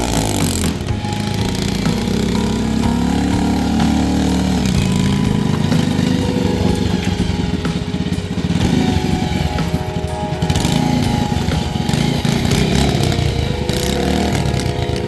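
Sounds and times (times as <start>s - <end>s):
small tractor engine chugging: 0.0s - 15.0s.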